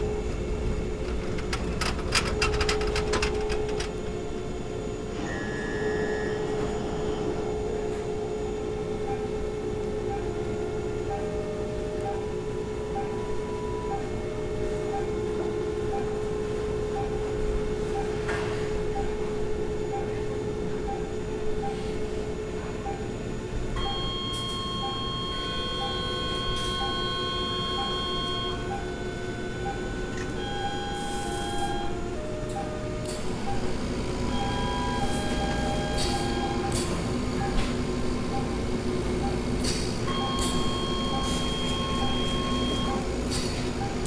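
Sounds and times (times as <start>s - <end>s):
patient monitor beeping: 0.0s - 4.2s, 8.5s - 21.9s, 22.8s - 44.0s.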